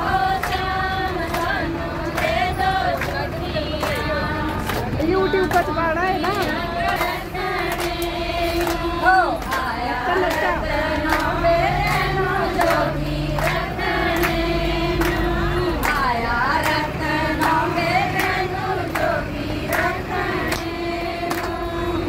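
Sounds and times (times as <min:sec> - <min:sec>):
women singing together: 0:00.0 - 0:22.0
hand claps: 0:00.1 - 0:14.4, 0:15.0 - 0:21.8.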